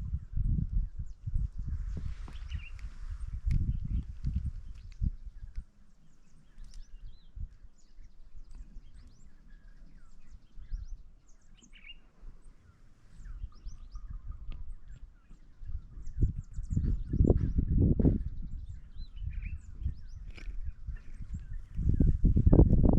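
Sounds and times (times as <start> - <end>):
low rumbles on microphone: 0.0 - 22.9
small birds chirping: 0.0 - 22.9.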